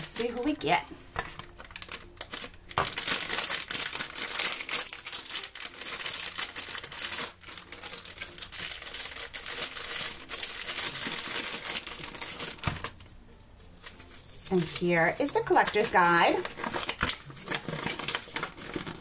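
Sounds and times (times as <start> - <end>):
foil and plastic bag crinkling: 0.0 - 19.0.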